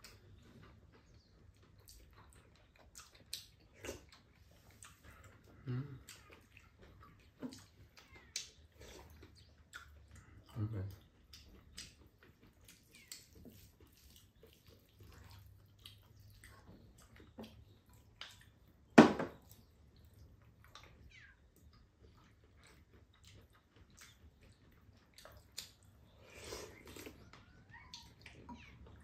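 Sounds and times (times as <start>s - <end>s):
chewing: 0.0s - 29.0s.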